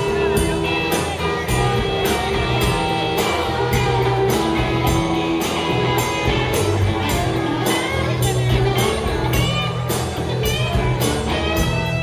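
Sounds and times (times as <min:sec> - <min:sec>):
bass guitar notes: 0:00.0 - 0:12.0
live rock band playing: 0:00.0 - 0:12.0.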